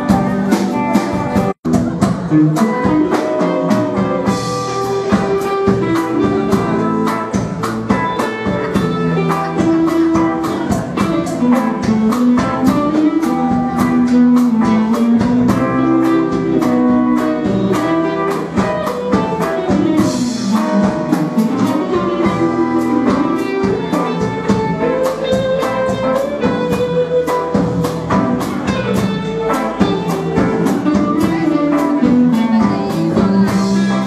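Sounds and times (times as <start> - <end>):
live rock band playing: 0.0 - 34.0.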